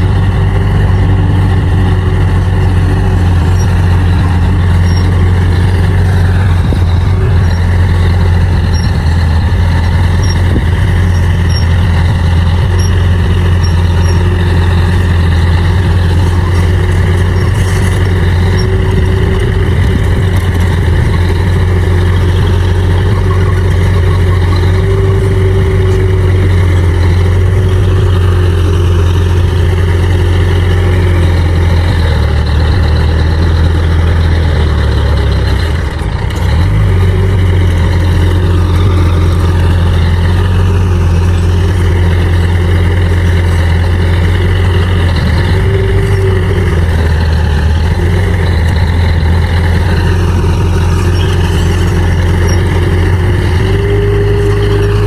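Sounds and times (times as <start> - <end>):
bulldozer diesel engine running: 0.0 - 55.0
whining tone: 0.0 - 55.0.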